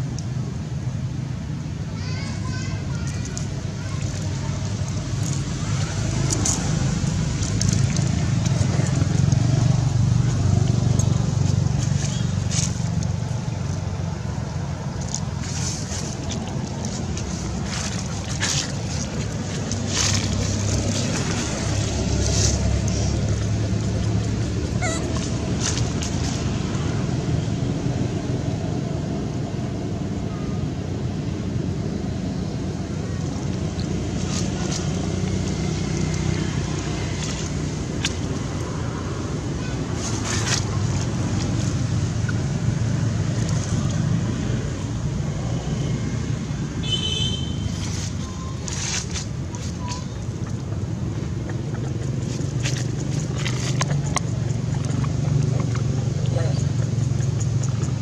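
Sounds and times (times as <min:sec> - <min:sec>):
low outdoor rumble: 0:00.0 - 0:58.0
low motor hum: 0:02.4 - 0:58.0.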